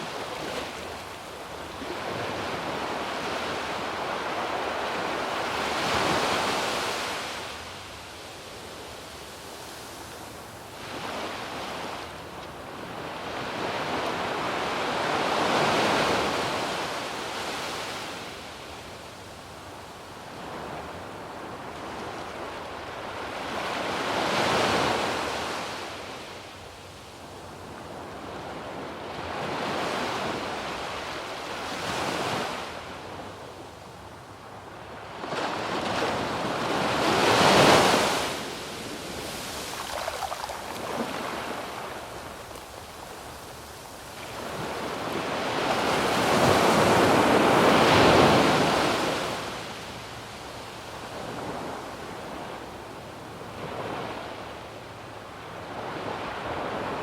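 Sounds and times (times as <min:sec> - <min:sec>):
waves breaking on sandy beach: 0:00.0 - 0:57.0.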